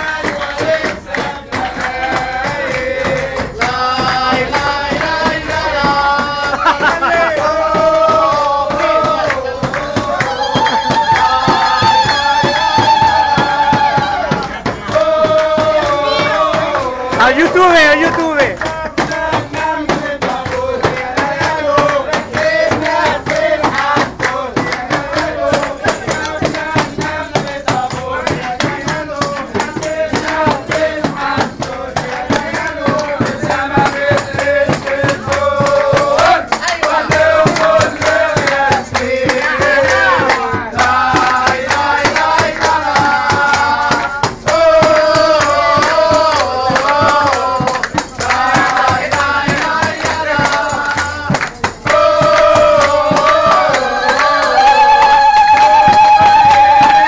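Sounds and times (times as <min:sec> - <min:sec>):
hand-clapping: 0:00.0 - 0:57.0
men singing folk song: 0:00.0 - 0:57.0
percussion: 0:00.0 - 0:57.0.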